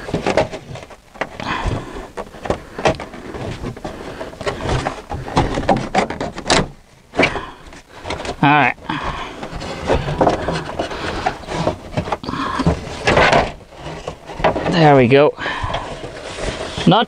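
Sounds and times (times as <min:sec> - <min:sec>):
plastic rubbing and scraping: 0:00.0 - 0:17.0.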